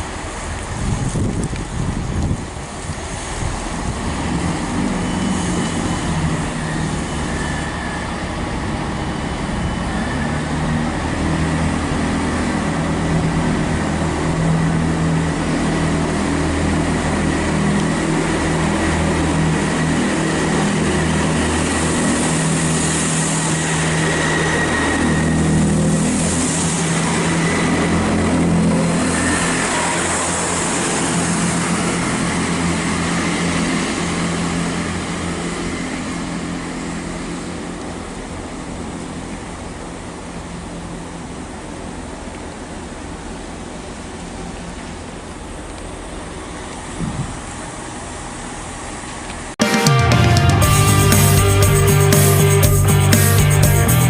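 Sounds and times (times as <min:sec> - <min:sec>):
diesel train engines running: 0:00.0 - 0:54.0.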